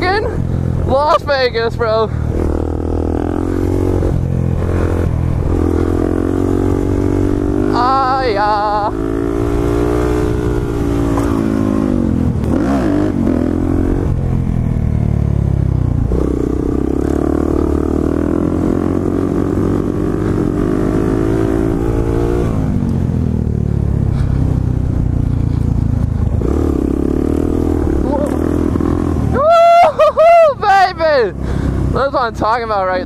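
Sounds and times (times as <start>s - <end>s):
motorcycle engine running: 0.0s - 33.0s
wind and road rumble: 0.0s - 33.0s.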